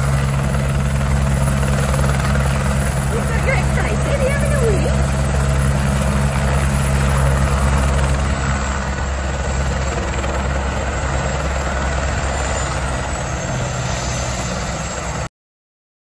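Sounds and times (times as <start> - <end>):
helicopter rotor and engine: 0.0 - 15.3.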